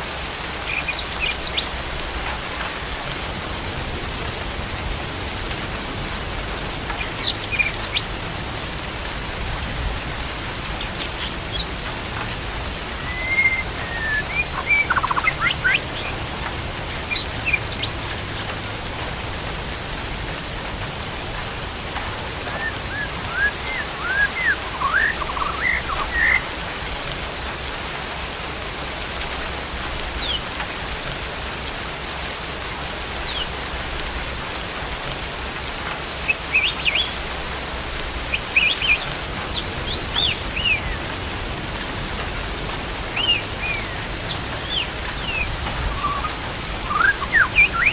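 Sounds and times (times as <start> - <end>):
songbirds chirping: 0.0 - 47.9
steady hiss: 0.0 - 47.9.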